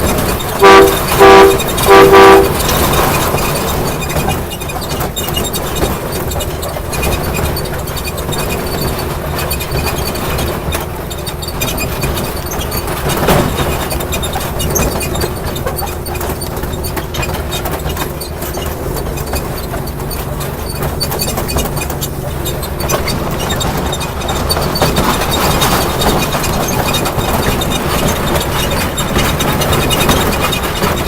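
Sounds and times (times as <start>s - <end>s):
train engine hum: 0.0s - 31.0s
small clicks and rattles: 2.5s - 31.0s.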